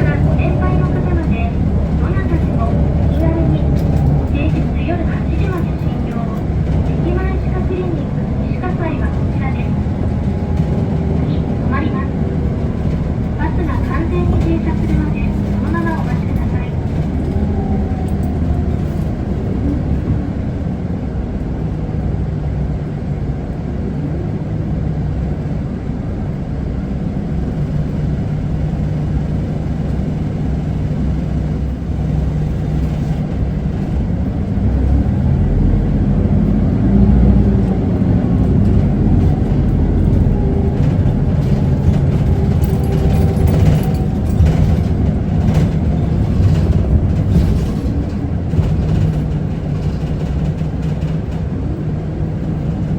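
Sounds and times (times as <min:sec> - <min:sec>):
bus diesel engine hum: 0:00.0 - 0:52.9
road noise: 0:00.0 - 0:52.9.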